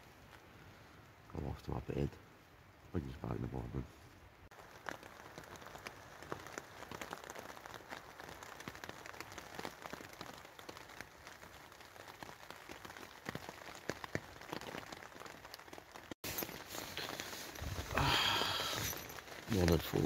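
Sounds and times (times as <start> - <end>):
rain on a tarp: 0.0 - 20.0.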